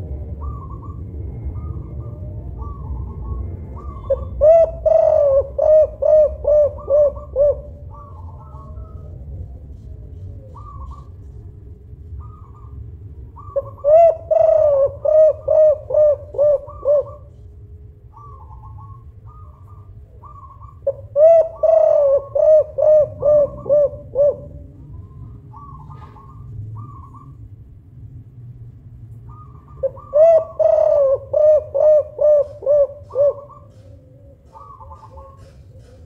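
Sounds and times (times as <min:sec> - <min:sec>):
dove cooing: 0:00.0 - 0:27.4, 0:29.3 - 0:36.0
softer higher bird calls: 0:00.3 - 0:27.5, 0:29.2 - 0:36.0.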